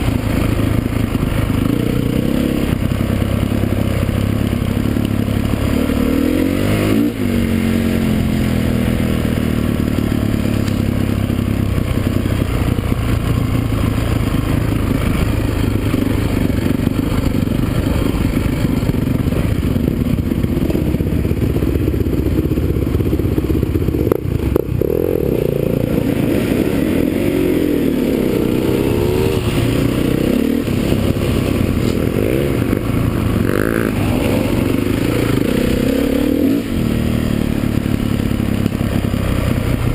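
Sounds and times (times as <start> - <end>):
motocross motorcycles revving: 0.0 - 39.9.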